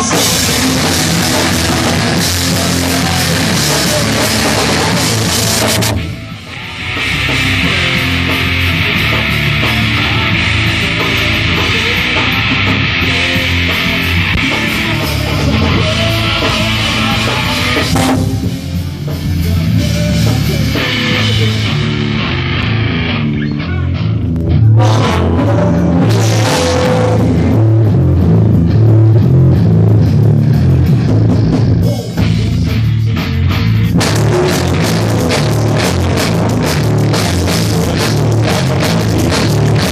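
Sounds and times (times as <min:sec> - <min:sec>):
drum kit: 0:00.0 - 0:39.9
electric guitar: 0:00.0 - 0:39.9
rock band playing: 0:00.0 - 0:39.9.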